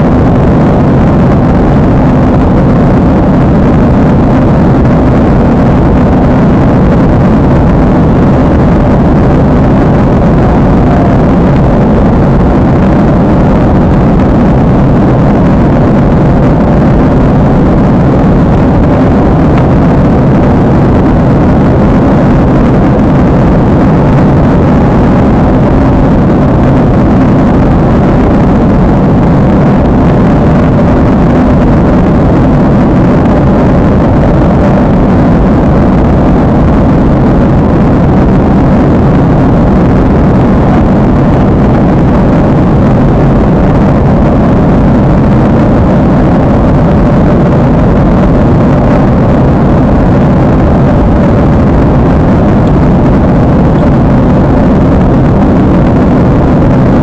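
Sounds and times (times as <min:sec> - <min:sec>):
airliner cabin engine rumble: 0:00.0 - 0:57.0
faint steady hum: 0:00.0 - 0:57.0.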